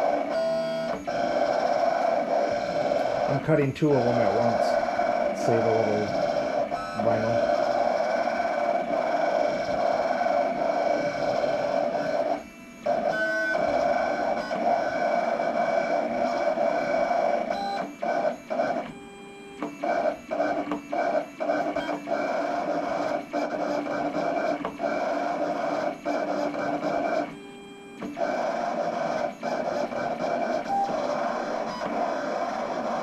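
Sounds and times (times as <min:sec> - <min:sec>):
vinyl cutter motors whirring: 0:00.0 - 0:33.0.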